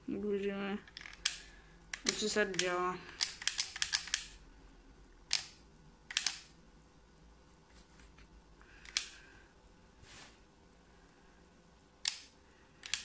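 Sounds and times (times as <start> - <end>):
small computer fan humming: 0.0 - 13.0.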